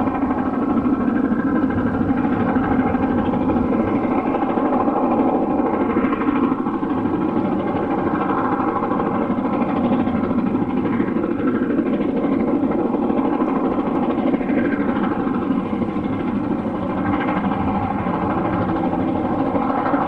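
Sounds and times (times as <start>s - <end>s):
steam locomotive running: 0.0s - 20.0s.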